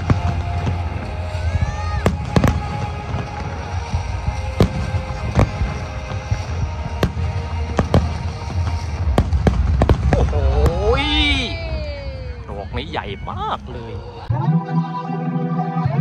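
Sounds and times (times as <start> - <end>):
fireworks bangs: 0.0 - 14.2.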